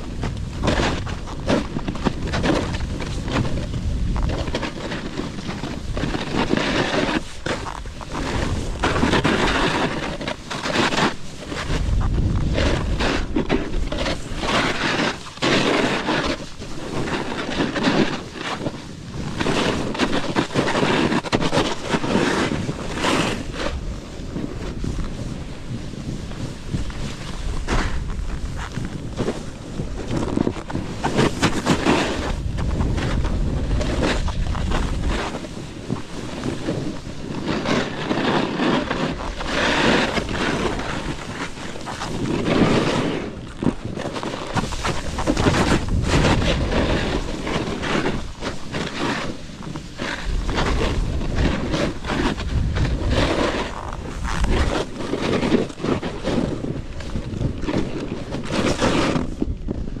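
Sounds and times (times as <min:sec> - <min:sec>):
wind buffeting microphone: 0:00.0 - 0:15.2, 0:15.9 - 1:00.0
snowboard scraping over snow: 0:00.0 - 1:00.0.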